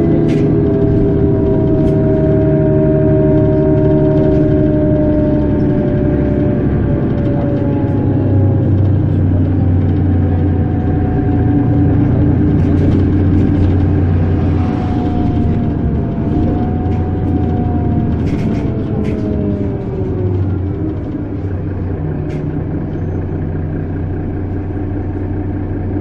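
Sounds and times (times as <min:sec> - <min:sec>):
bus engine drone: 0:00.0 - 0:26.0
drivetrain whine: 0:00.0 - 0:26.0.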